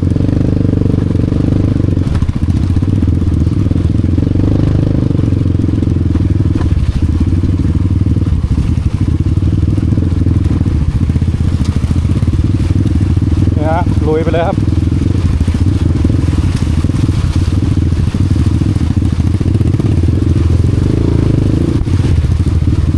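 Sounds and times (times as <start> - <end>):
motorcycle engine running at low revs: 0.0 - 22.9.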